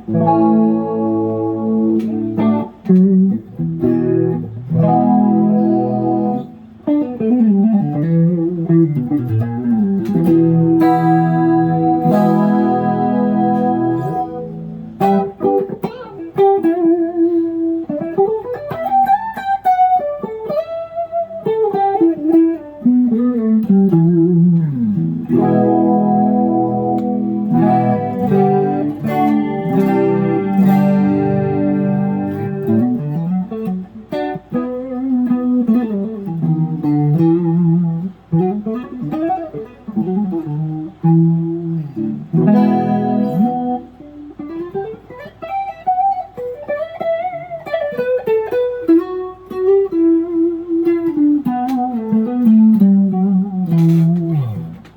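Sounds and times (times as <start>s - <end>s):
electric guitar through amp: 0.0s - 54.9s.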